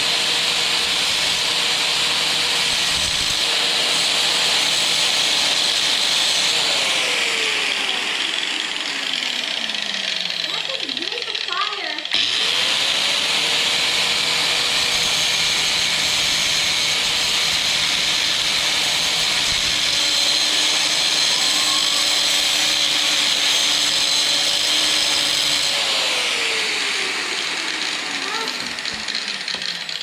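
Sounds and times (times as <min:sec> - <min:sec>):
angle grinder motor whine: 0:00.0 - 0:30.0.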